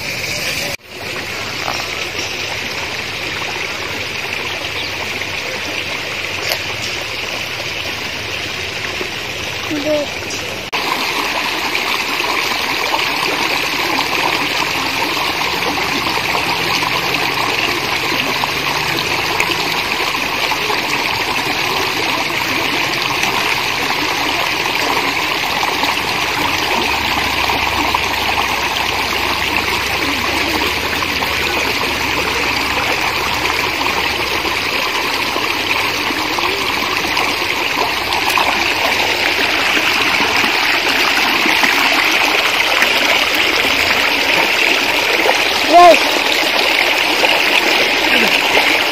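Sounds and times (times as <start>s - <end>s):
water rushing over rocks: 0.0s - 48.9s.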